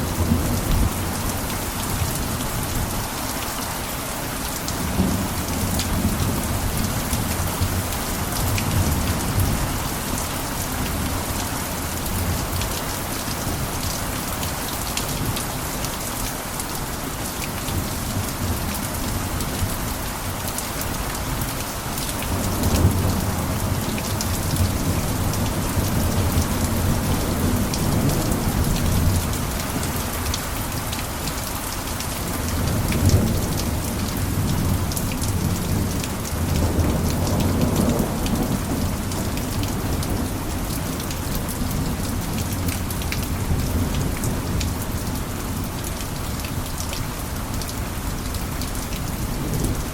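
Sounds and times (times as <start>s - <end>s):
heavy rain on a roof: 0.0s - 49.9s.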